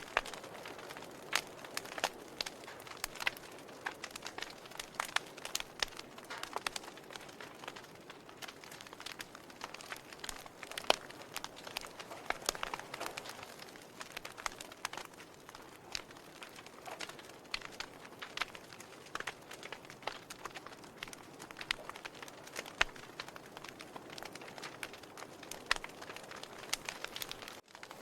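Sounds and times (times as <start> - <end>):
fire popping and snapping: 0.0 - 28.0
wood fire crackling: 0.0 - 28.0.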